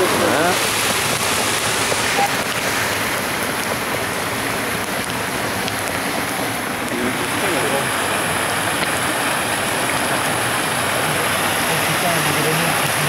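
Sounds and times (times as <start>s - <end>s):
campfire crackling: 0.0s - 13.0s
river rushing: 0.0s - 13.0s.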